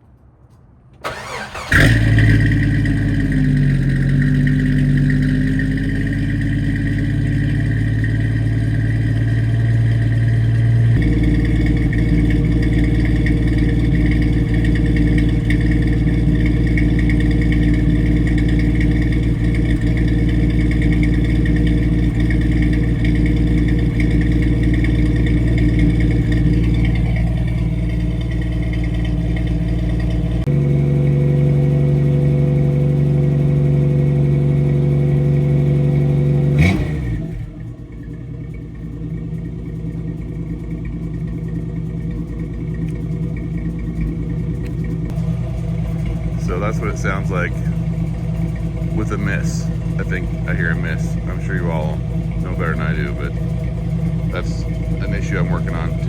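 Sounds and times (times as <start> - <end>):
engine cranking: 1.0 - 30.5, 36.6 - 56.0
car engine idling: 1.0 - 56.0.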